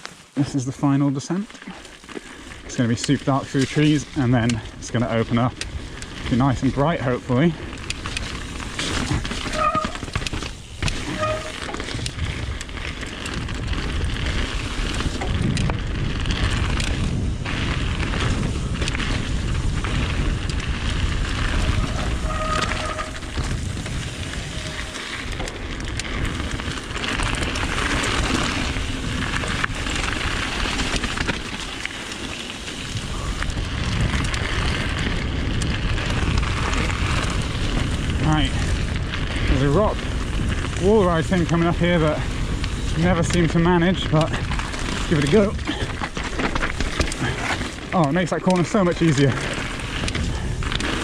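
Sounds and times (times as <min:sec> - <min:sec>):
bike tyres crunching over gravel: 0:00.0 - 0:51.0
bike rattling and knocking: 0:02.0 - 0:51.0.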